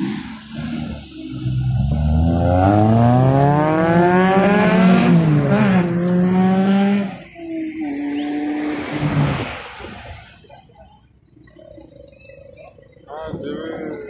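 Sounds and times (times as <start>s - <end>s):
car engine revving: 0.0s - 13.1s.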